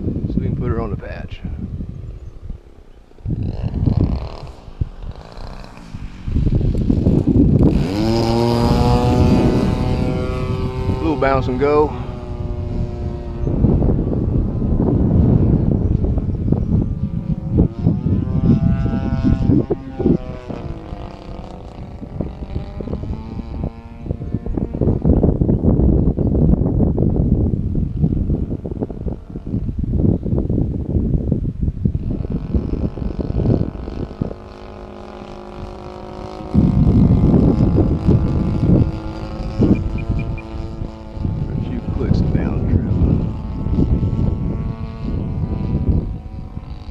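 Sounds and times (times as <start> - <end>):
model airplane engine in flight: 0.0 - 46.9
wind buffeting microphone: 0.0 - 46.9.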